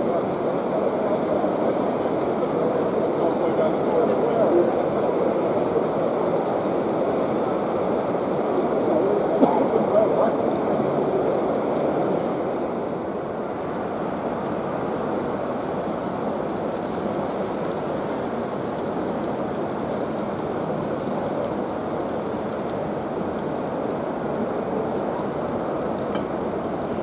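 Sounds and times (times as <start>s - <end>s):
model train wheels rumbling on rail: 0.0s - 27.0s.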